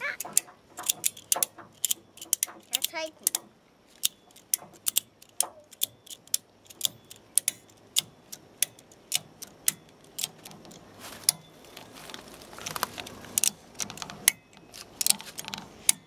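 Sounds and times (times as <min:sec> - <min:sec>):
ratchet strap clicking: 0:00.0 - 0:11.4, 0:12.5 - 0:16.0.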